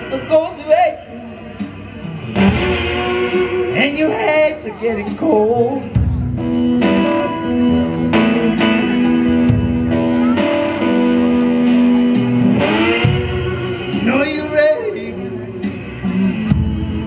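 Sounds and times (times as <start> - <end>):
resonator guitar notes: 1.0 - 17.0
drum and cymbal hits: 1.5 - 4.0, 5.0 - 17.0.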